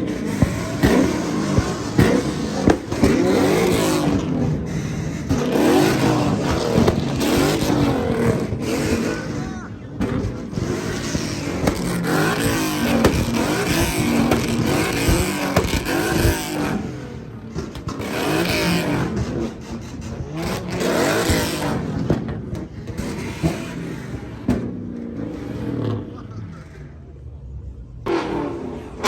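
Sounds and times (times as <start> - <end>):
car engines revving: 0.0 - 29.0
loud exhaust noise: 0.0 - 29.0.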